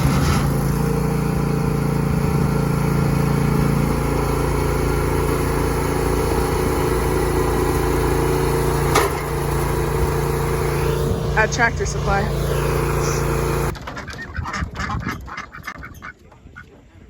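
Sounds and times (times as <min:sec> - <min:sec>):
engine idling: 0:00.0 - 0:13.8.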